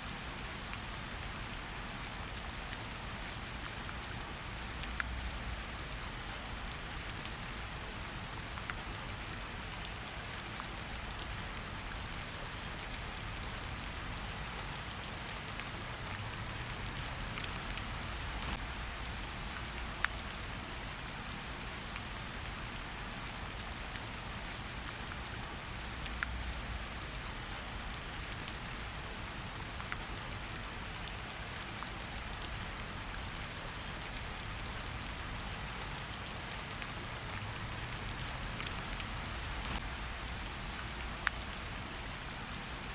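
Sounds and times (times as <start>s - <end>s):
heavy rain falling: 4.0s - 42.9s.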